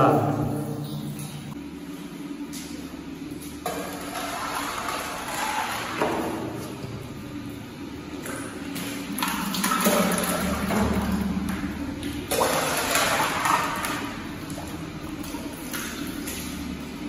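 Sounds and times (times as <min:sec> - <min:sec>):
low steady hum: 0:00.0 - 0:17.0
water sloshing and splashing: 0:00.4 - 0:17.0.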